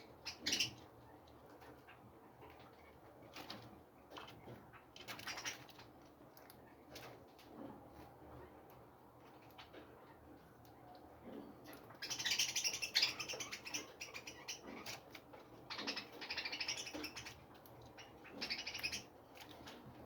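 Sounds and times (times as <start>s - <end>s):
songbirds twittering: 0.0s - 7.5s, 8.3s - 20.0s.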